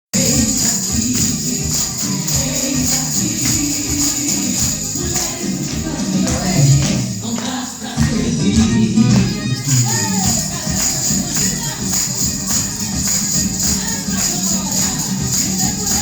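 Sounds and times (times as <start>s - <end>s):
christian song playing: 0.1s - 16.0s
tambourine jingles: 0.1s - 16.0s.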